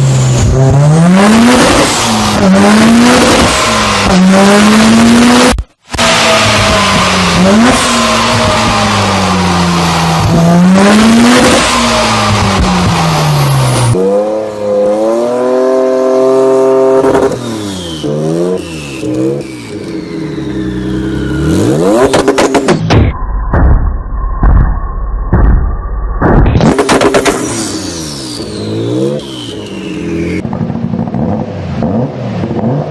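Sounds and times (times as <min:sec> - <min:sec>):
sports car engine revving: 0:00.0 - 0:22.8, 0:26.4 - 0:32.9.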